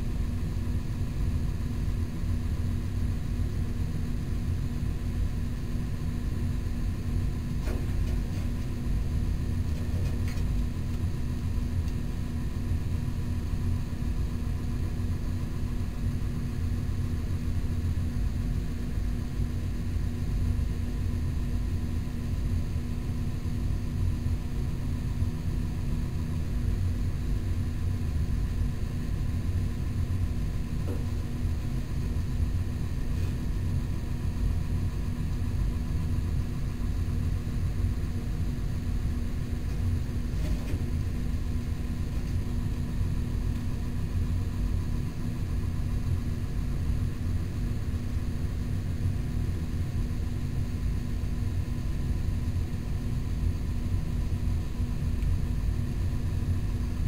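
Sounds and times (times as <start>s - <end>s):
machine hum and rumble: 0.0s - 57.0s.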